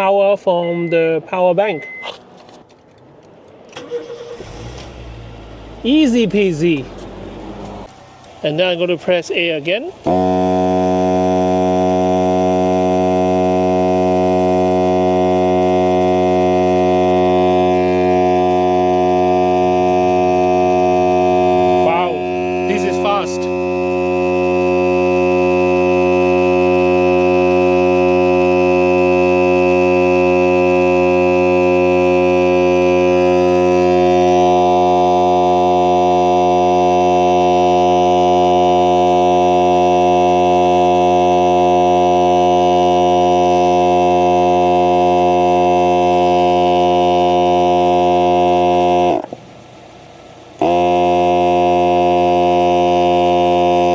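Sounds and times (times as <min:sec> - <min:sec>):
air compressor motor hum: 0:03.8 - 0:53.9.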